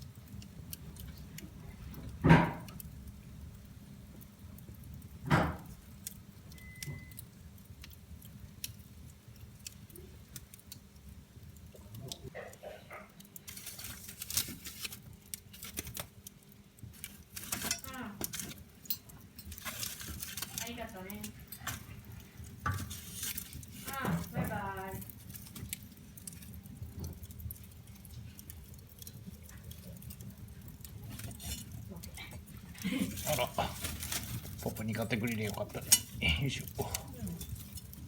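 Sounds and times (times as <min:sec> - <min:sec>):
sharp pops from fire: 0:00.0 - 0:38.0
wood fire crackling: 0:00.0 - 0:38.0.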